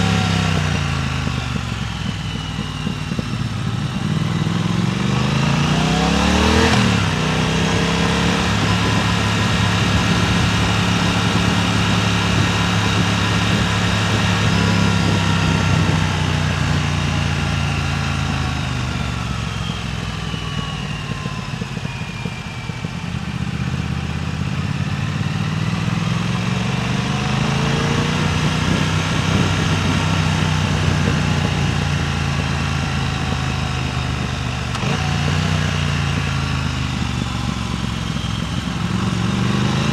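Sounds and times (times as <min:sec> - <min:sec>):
wind rushing over microphone: 0:00.0 - 0:19.4, 0:24.8 - 0:39.9
motorcycle engine revving: 0:00.0 - 0:39.9.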